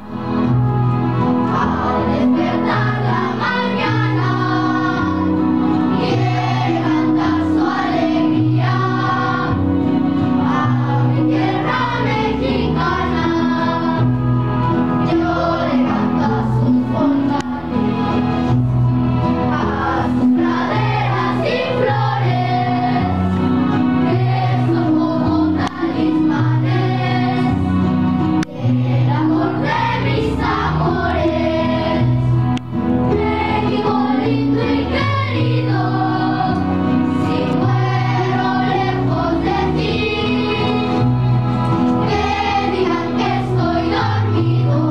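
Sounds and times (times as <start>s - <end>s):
instrumental accompaniment: 0.0s - 44.9s
group of voices singing: 1.5s - 14.1s, 15.0s - 18.0s, 19.5s - 27.7s, 28.4s - 32.2s, 33.1s - 41.1s, 41.7s - 44.9s.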